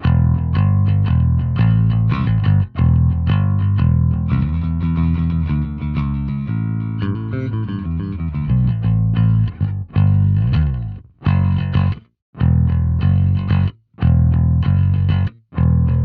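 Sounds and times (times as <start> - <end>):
picked electric bass notes: 0.0 - 16.0.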